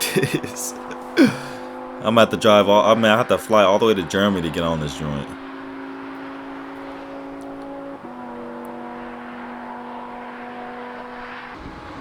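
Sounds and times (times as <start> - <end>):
car engine at speed: 0.0 - 12.0.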